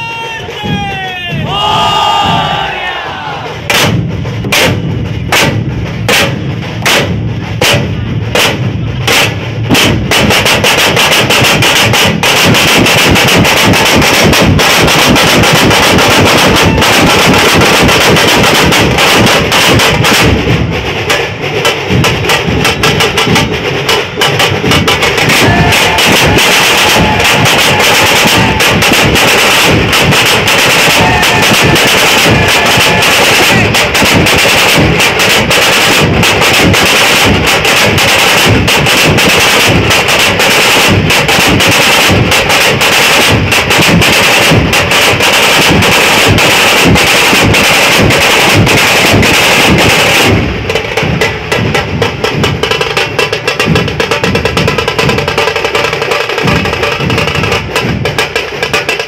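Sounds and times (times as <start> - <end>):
fast dense group drumming: 0.0 - 59.0
heavy drum strikes: 0.0 - 59.0
snare drums rattling: 0.0 - 59.0.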